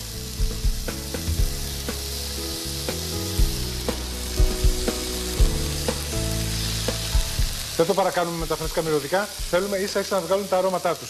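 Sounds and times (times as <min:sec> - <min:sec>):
background music with steady beat: 0:00.0 - 0:10.7
steaks sizzling in a hot pan: 0:00.0 - 0:11.0.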